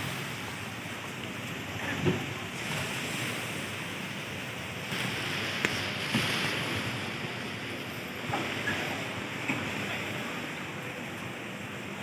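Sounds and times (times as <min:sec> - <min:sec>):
wind and surf: 0:00.0 - 0:12.0.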